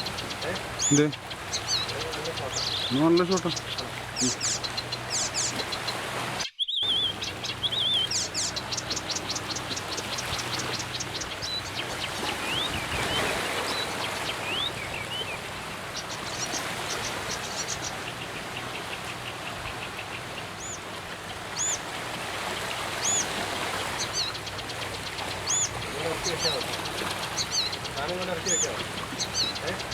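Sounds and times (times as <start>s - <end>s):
songbirds singing: 0.0s - 29.9s.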